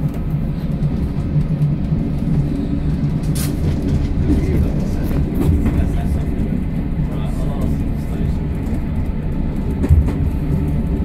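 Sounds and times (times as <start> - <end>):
low engine drone: 0.0 - 11.0
wheel-on-rail noise: 0.0 - 11.0.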